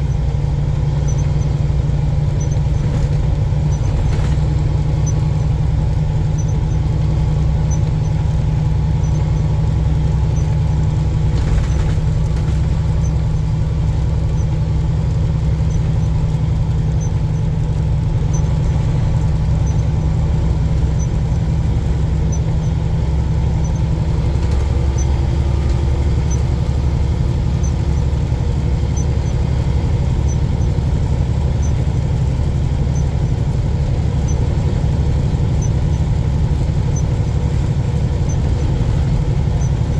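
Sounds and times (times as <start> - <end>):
truck diesel engine drone: 0.0 - 39.9.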